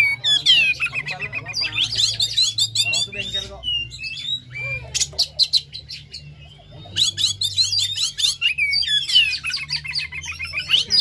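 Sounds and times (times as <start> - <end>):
bird singing whistles and chirps: 0.0 - 11.0.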